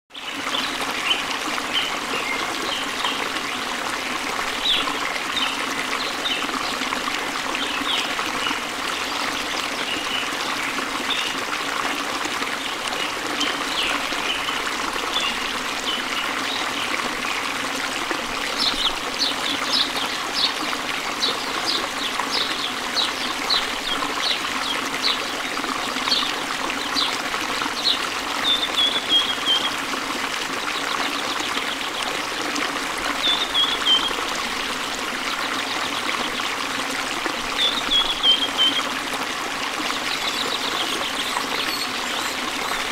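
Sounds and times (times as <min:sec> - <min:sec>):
water trickling: 0:00.2 - 0:42.9.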